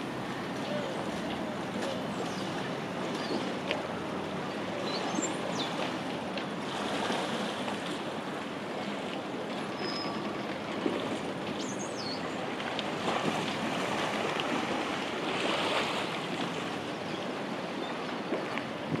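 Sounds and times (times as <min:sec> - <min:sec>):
harbour water: 0:00.0 - 0:19.0
wind: 0:00.0 - 0:19.0.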